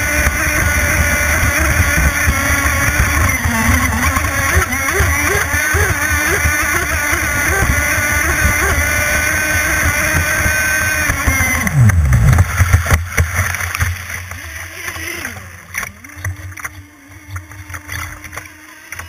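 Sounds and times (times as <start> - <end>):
model boat engine at high revs: 0.0 - 19.0.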